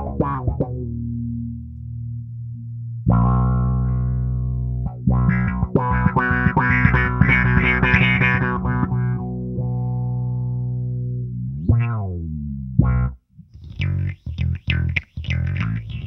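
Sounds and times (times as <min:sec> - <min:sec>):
bass guitar through envelope filter: 0:00.0 - 0:16.0.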